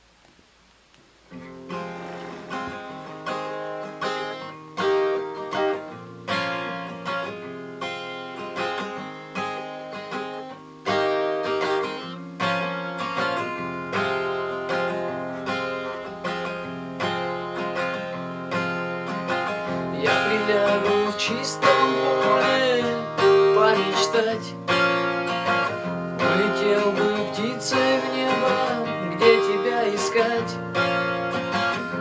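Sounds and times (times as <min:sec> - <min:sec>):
acoustic guitar strumming: 0:01.2 - 0:32.0.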